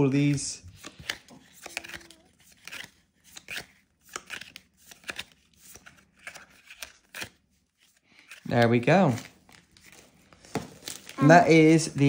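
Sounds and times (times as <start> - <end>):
trading cards rustling and snapping: 0.0 - 12.0.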